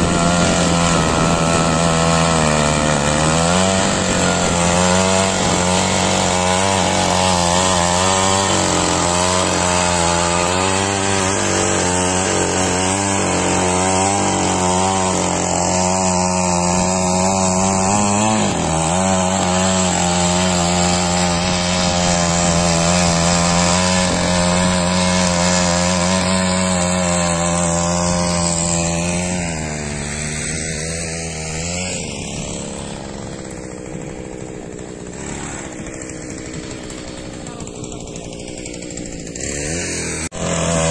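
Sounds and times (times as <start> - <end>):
small petrol engine running: 0.0 - 40.9.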